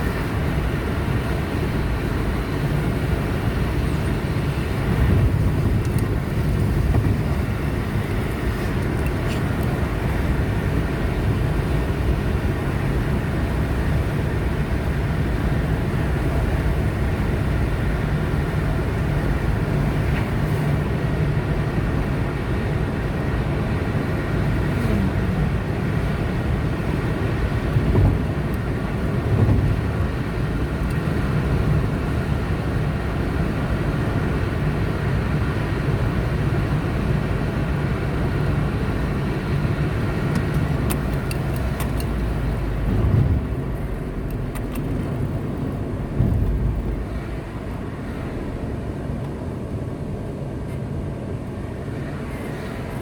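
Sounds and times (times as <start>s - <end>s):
car engine: 0.0s - 53.0s
tyre road noise: 0.0s - 53.0s.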